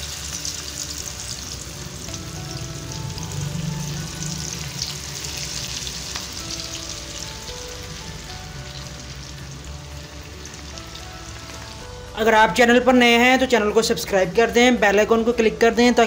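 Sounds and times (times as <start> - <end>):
batter frying in hot oil: 0.0 - 16.0.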